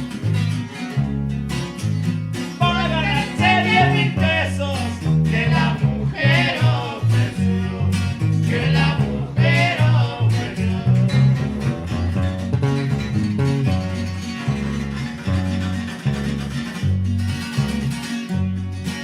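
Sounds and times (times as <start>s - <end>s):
bass line: 0.0s - 19.0s
plucked string instruments: 0.0s - 19.0s.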